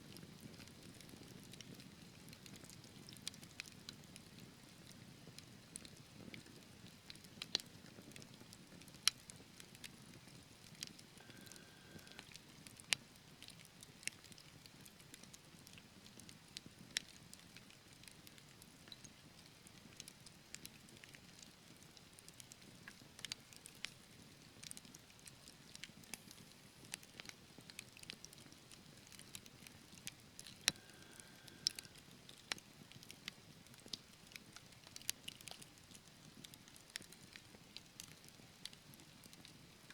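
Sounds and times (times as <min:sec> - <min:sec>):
low rush of burning logs: 0:00.1 - 0:39.6
wood fire crackling: 0:00.1 - 0:39.6.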